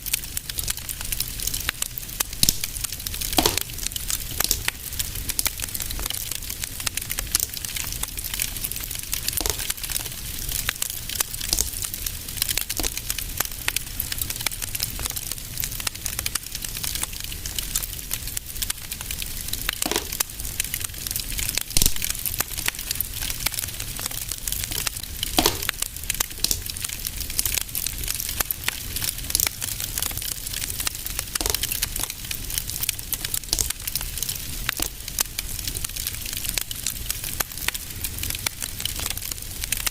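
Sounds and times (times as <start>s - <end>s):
fire crackling and popping: 0.0s - 39.9s
fire rumbling: 0.0s - 39.9s
fire snapping: 0.0s - 39.9s.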